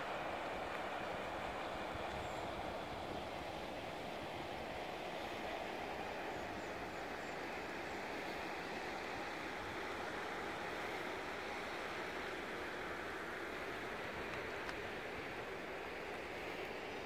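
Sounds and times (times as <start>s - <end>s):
fast river water rushing: 0.0s - 17.0s.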